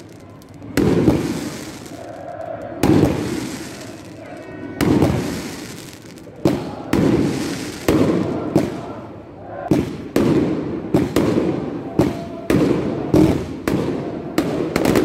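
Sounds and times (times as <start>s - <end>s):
fireworks bangs with rumbling echo: 0.0s - 9.1s, 9.7s - 15.0s.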